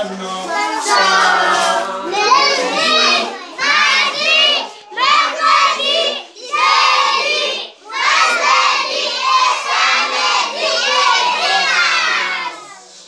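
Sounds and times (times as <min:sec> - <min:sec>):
children chanting in unison: 0:00.4 - 0:13.0.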